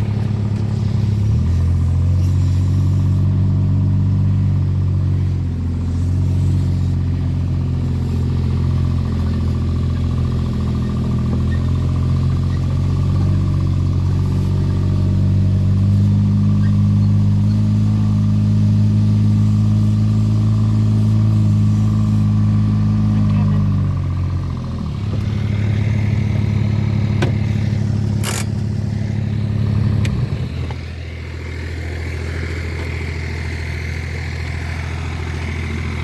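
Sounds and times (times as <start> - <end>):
engine running under load: 0.0 - 36.0.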